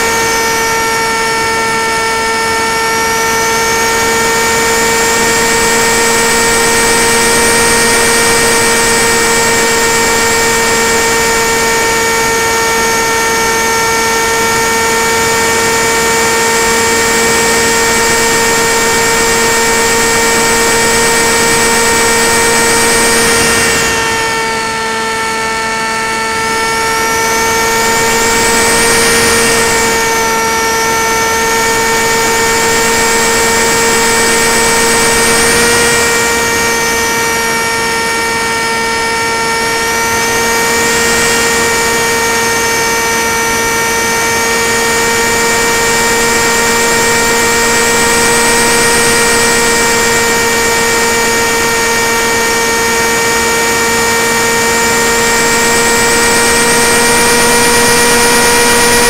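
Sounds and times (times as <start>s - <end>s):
electric motor and propeller humming: 0.0s - 59.0s
high motor whine: 0.0s - 59.0s.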